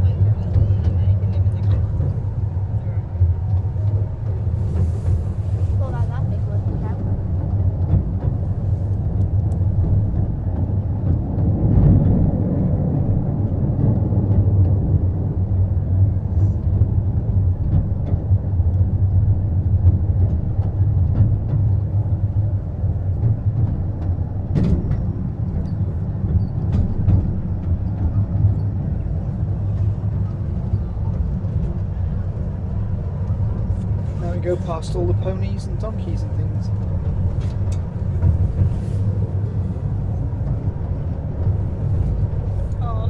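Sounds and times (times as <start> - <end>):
train rumbling along track: 0.0 - 43.0.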